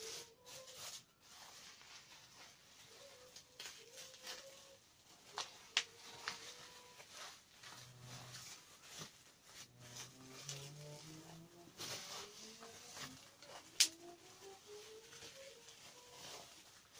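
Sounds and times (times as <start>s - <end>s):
bubble wrap rustling and crinkling: 0.0s - 16.9s.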